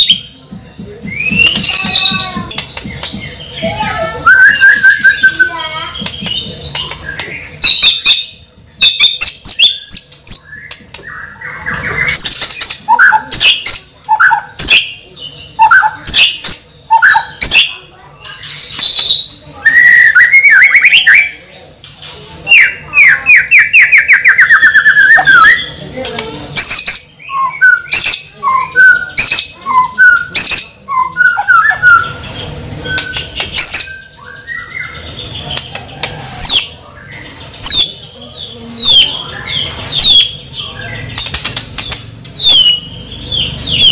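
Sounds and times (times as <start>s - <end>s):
bird chirping and squawking: 1.2s - 43.9s.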